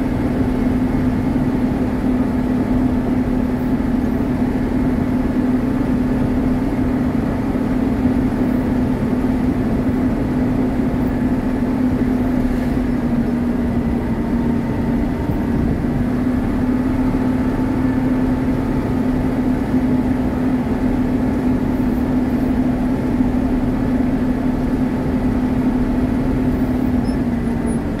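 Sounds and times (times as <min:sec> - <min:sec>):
diesel engine drone in cab: 0:00.0 - 0:28.0.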